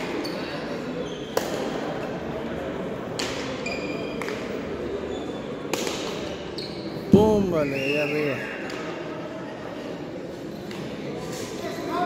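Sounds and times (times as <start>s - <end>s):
murmur of crowd voices: 0.0s - 12.0s.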